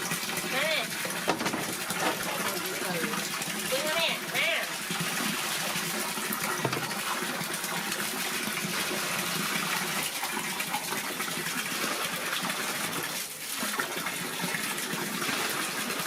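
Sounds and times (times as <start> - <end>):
tap water running into a bath: 0.0 - 16.0.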